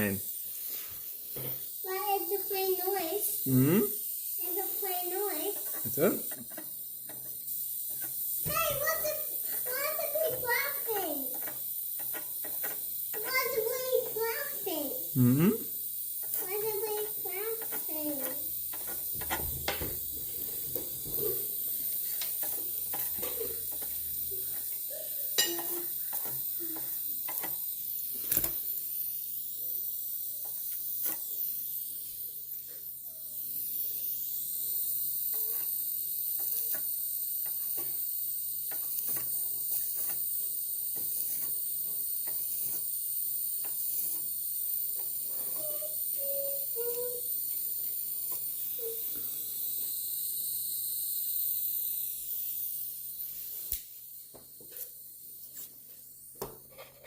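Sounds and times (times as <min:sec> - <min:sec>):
steady high hiss: 0:00.0 - 0:29.7, 0:33.8 - 0:56.5.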